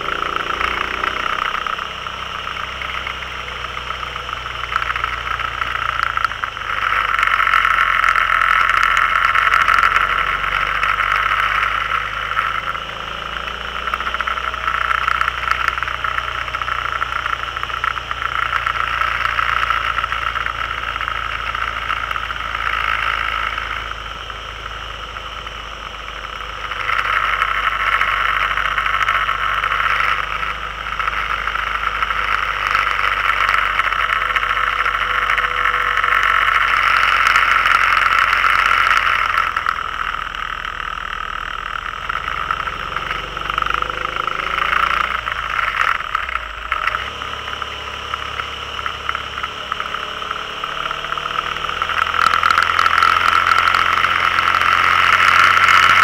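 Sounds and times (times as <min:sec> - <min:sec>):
vehicle engine: 0:00.0 - 0:56.0
wind and road noise: 0:00.0 - 0:56.0.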